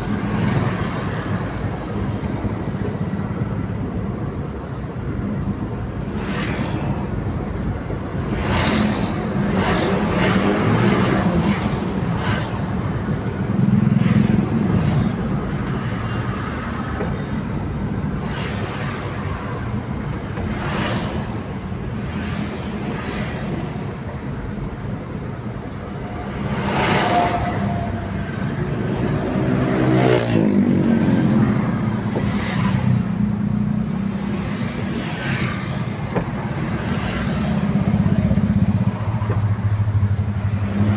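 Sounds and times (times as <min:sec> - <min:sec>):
vehicles rushing past: 0:00.0 - 0:40.9.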